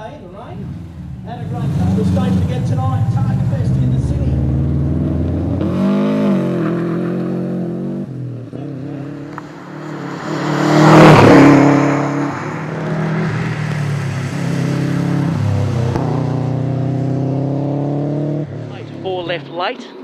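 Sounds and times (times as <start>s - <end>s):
car engine revving: 0.0s - 19.9s
loud rushing: 0.6s - 17.3s.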